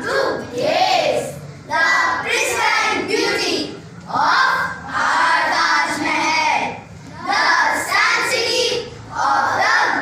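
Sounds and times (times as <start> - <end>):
children reciting in unison: 0.0 - 10.0.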